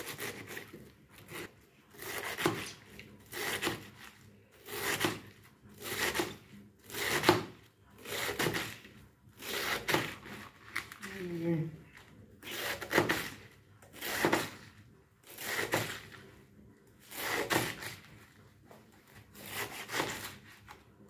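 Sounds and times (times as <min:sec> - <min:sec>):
knife crunching through cabbage: 0:00.0 - 0:11.4, 0:12.4 - 0:16.3, 0:17.0 - 0:18.3, 0:19.0 - 0:20.8.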